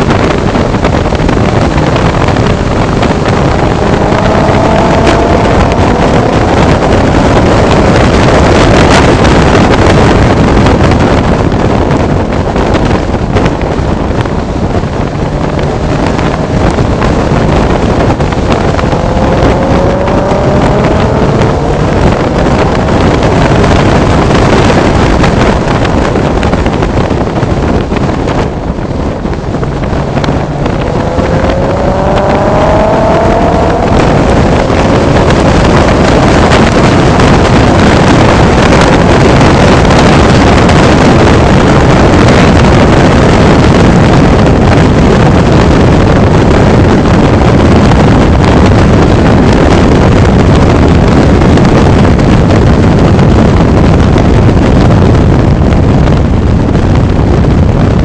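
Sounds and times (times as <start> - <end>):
car engine revving: 0.0 - 54.6
wind buffeting microphone: 0.0 - 58.0.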